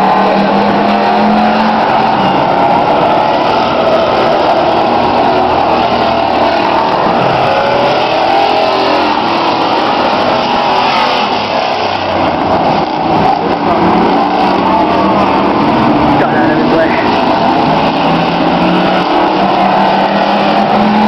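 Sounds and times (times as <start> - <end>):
race engines revving: 0.0 - 21.0.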